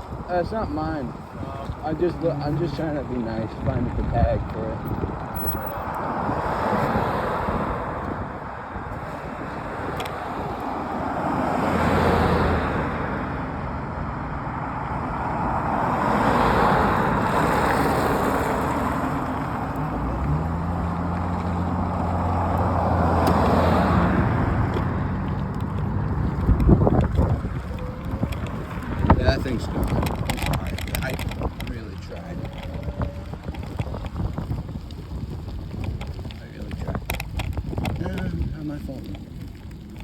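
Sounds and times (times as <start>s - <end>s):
cars passing: 0.0s - 40.0s
low engine hum: 2.5s - 40.0s.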